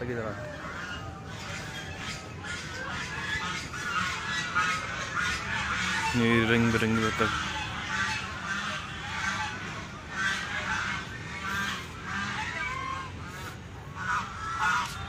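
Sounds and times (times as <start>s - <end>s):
waterfowl honking: 0.0s - 15.0s.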